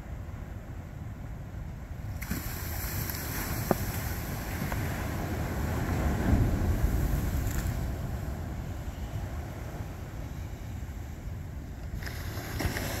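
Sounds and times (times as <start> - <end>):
wind buffeting microphone: 1.9 - 13.0
ocean surf washing: 2.0 - 13.0.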